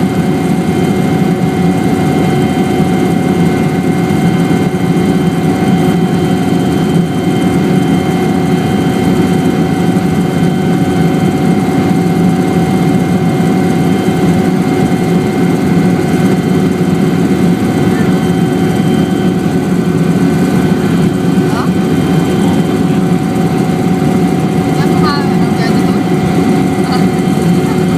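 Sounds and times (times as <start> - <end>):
constant whining tones: 0.0 - 27.9
helicopter engine and rotors: 0.0 - 27.9.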